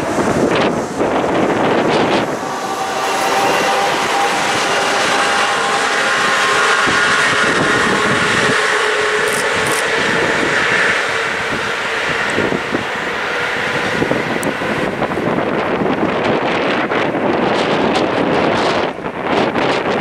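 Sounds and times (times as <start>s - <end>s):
locomotive whine: 0.0s - 20.0s
wheel and rail noise: 0.0s - 20.0s.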